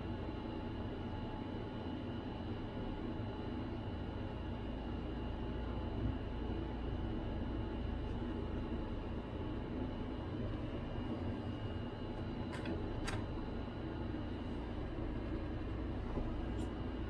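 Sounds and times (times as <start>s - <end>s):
low hum and hiss: 0.0s - 17.0s.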